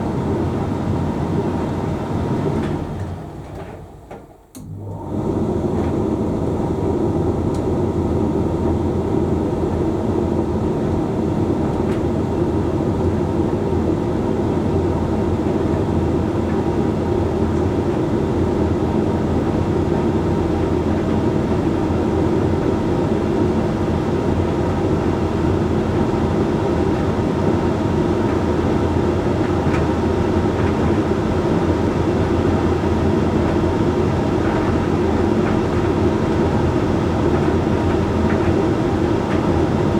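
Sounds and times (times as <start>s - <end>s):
tumble dryer humming: 0.0s - 39.9s.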